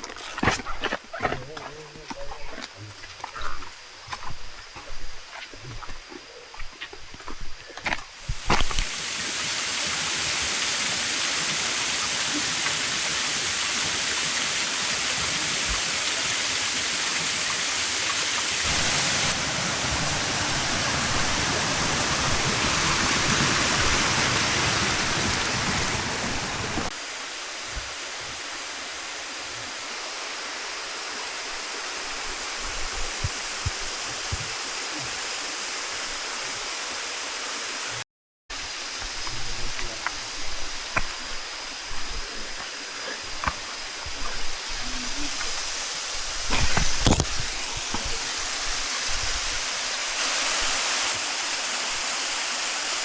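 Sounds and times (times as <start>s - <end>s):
waterfall rushing: 8.2s - 53.0s.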